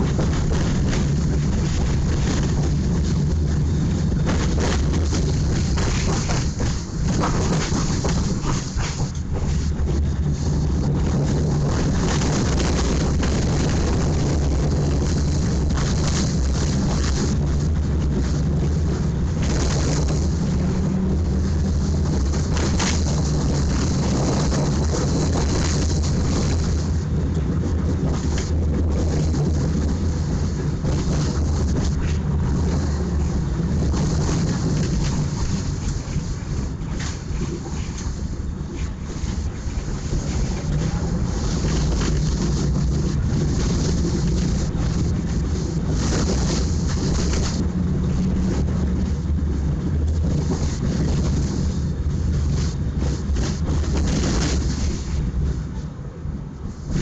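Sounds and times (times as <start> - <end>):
tram motor and wheel rumble: 0.0 - 57.0.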